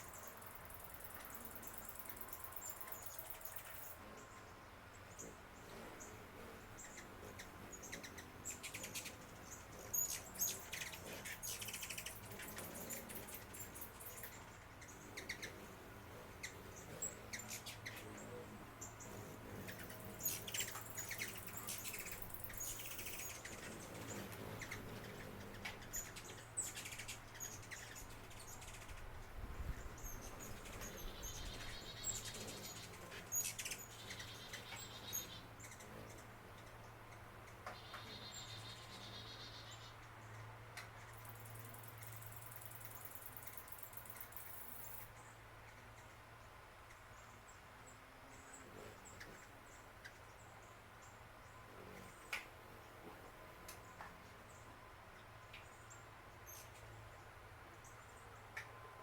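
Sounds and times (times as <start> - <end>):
small birds chirping: 0.0 - 58.8
faint steady low hum: 0.0 - 59.0.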